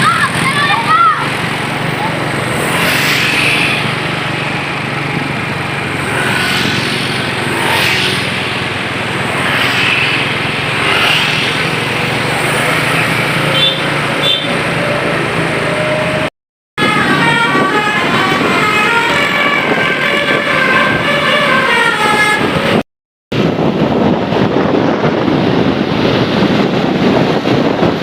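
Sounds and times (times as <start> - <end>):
vehicles passing: 0.0 - 22.8, 23.4 - 28.0.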